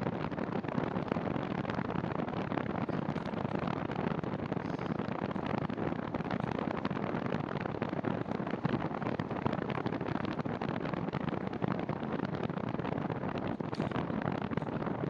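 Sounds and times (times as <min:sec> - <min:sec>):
fine crackle: 0:00.0 - 0:15.0
wind on microphone: 0:00.0 - 0:15.0.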